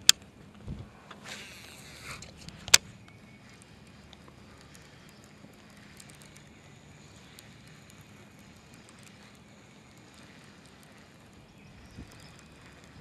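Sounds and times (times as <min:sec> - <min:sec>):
light wind noise: 0:00.0 - 0:13.0
faint high ticks: 0:01.5 - 0:13.0.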